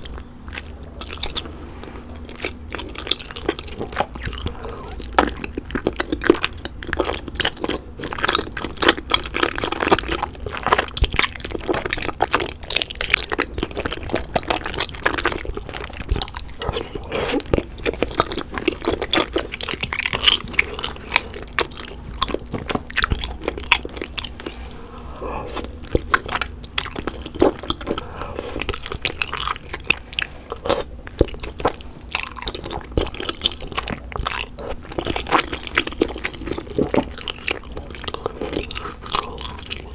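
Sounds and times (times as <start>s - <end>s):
wet chewing and mouth smacks: 0.0s - 39.9s.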